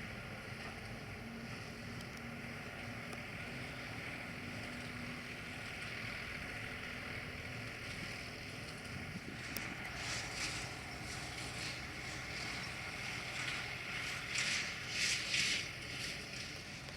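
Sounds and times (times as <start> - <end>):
tractor engine running: 0.0 - 16.9.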